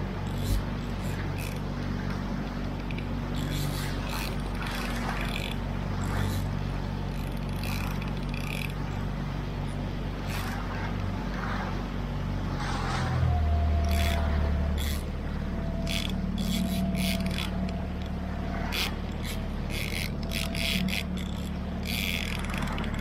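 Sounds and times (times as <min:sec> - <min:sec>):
outboard motor running: 0:00.0 - 0:23.0
water splashing along hull: 0:00.0 - 0:23.0.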